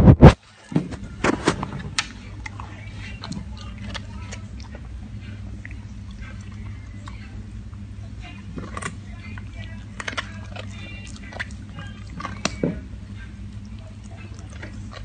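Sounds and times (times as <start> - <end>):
dog crunching carrot: 1.2 - 15.0.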